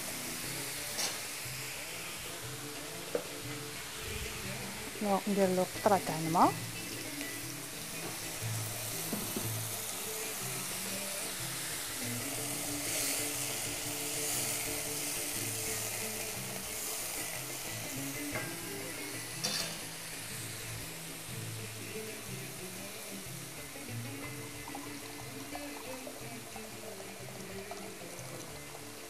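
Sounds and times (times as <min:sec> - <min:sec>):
onions sizzling in a pot: 0:00.0 - 0:29.0
soft background music: 0:00.0 - 0:29.0.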